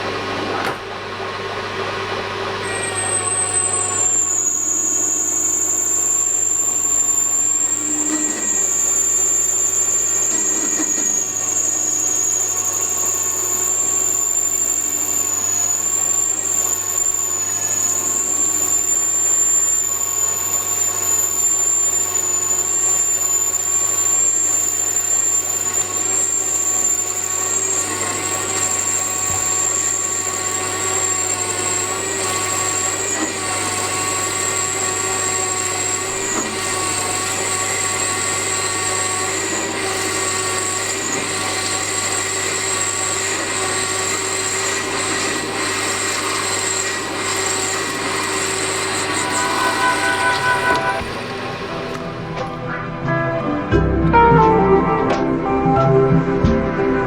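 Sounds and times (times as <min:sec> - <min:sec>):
grinder whining: 0:00.0 - 0:52.8
machine humming: 0:00.0 - 0:52.9.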